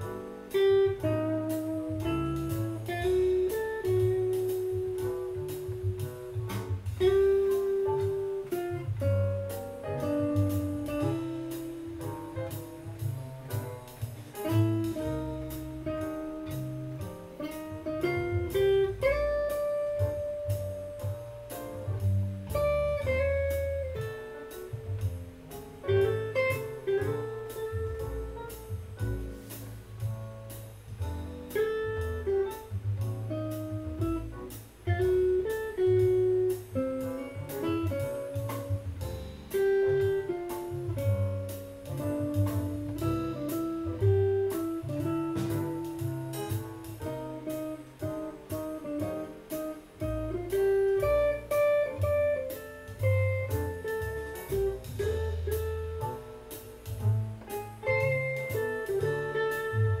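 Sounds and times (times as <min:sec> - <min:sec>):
backing track with bass line: 0:00.0 - 1:00.0
electric guitar jazz melody: 0:00.0 - 1:00.0.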